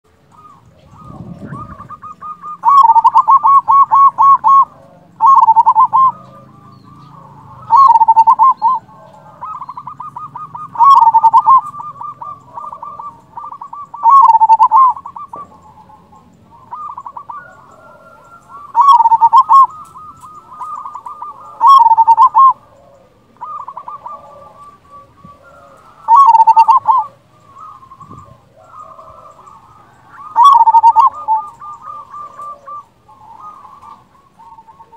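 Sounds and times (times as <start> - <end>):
dove cooing: 0.1 - 34.9.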